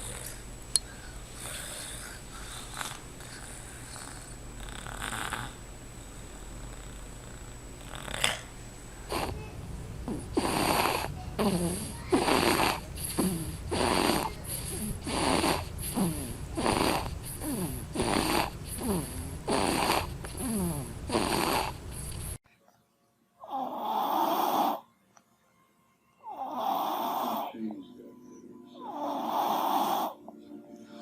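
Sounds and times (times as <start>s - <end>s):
baby snoring breaths: 0.0s - 8.5s, 9.1s - 9.4s, 10.0s - 22.4s, 23.4s - 24.9s, 26.2s - 27.6s, 28.8s - 30.2s.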